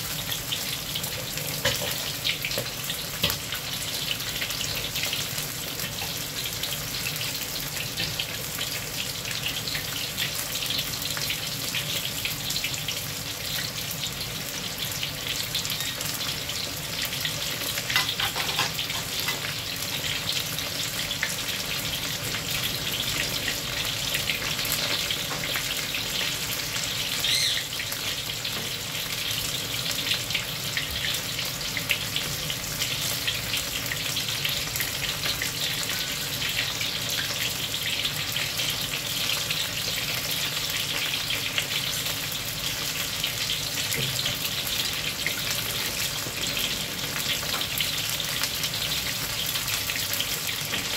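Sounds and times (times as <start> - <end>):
meat deep-frying in oil: 0.0 - 50.9.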